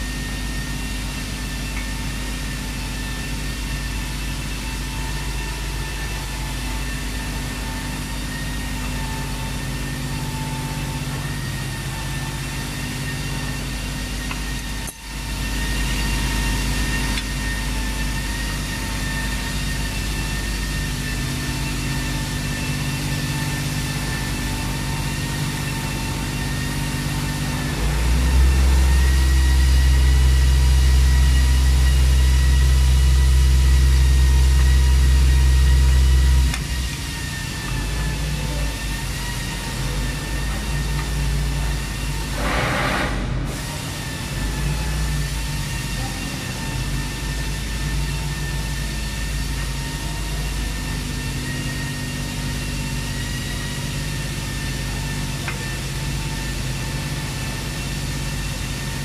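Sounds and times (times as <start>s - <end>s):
engine idling hum: 0.0s - 59.0s.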